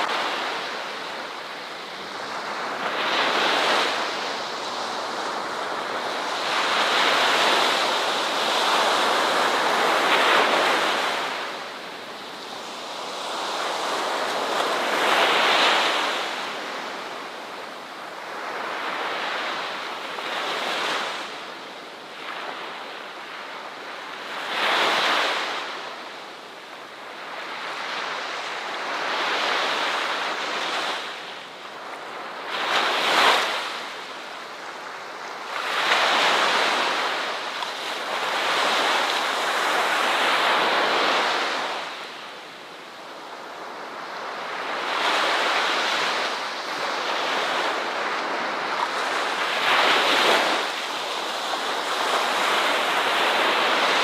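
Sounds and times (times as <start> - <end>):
ocean surf breaking on shore: 0.0 - 54.0.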